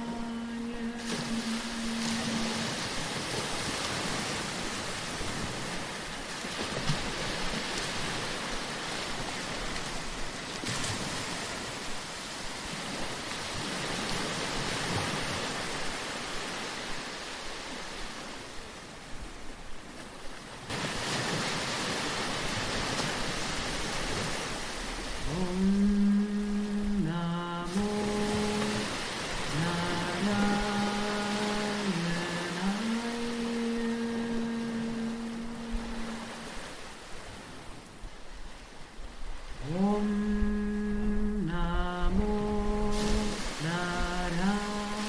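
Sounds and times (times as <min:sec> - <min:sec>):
sea waves washing on shore: 0:00.0 - 0:45.0.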